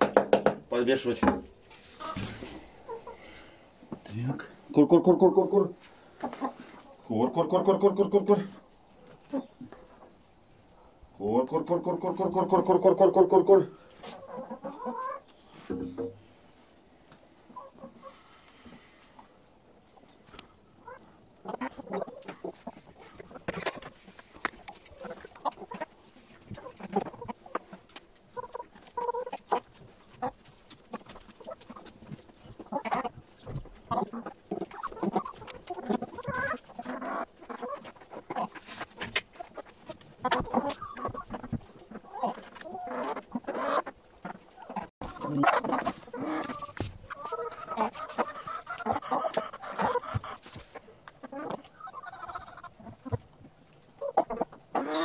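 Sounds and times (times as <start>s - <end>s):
hens clucking: 0.0s - 55.0s.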